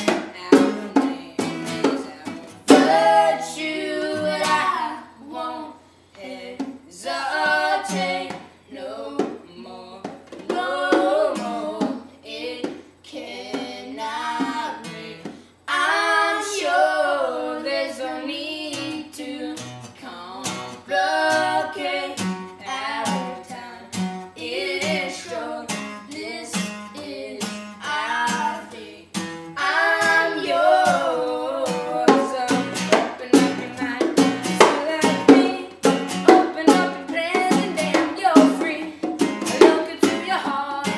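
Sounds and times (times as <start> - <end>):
person singing: 0.0 - 40.9
strummed acoustic guitar: 0.0 - 40.9.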